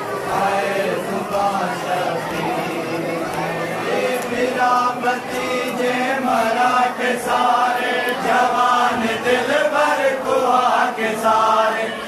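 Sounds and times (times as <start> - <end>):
men chanting together: 0.2 - 12.0.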